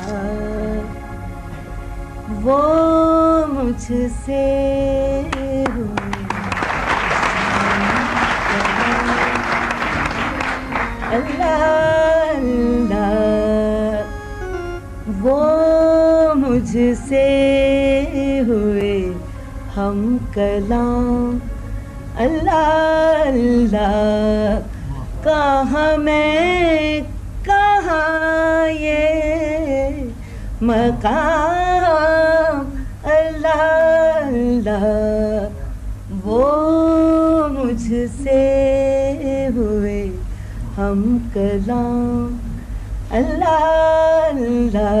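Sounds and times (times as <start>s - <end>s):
woman singing unaccompanied: 0.0s - 1.0s, 2.2s - 6.6s, 7.2s - 45.0s
low electrical hum: 0.0s - 45.0s.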